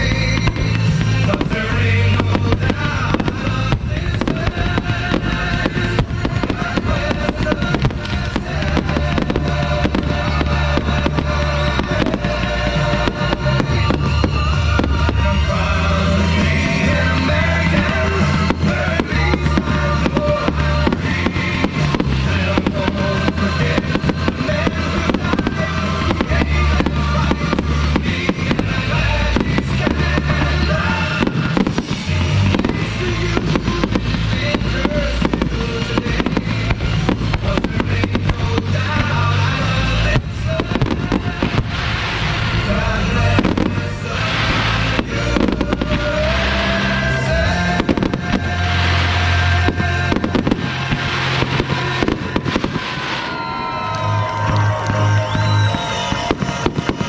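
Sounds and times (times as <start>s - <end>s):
fireworks banging: 0.0s - 57.0s
fireworks hissing: 0.0s - 57.0s
music with bass line: 0.0s - 57.0s.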